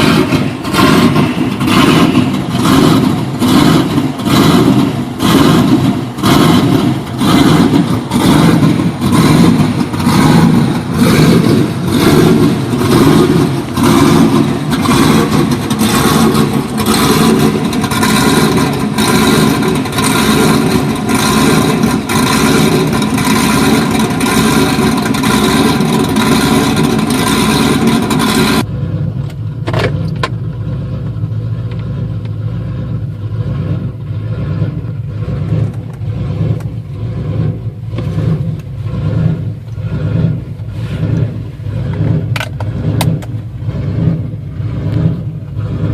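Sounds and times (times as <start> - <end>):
car engine idling choppily: 0.0 - 45.9.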